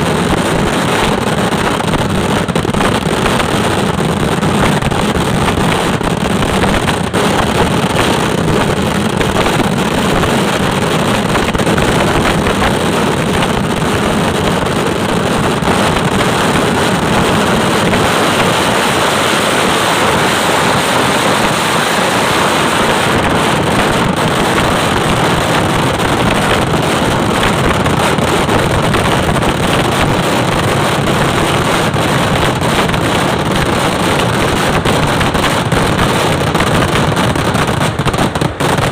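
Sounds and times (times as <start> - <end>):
firecrackers banging: 0.0 - 38.9.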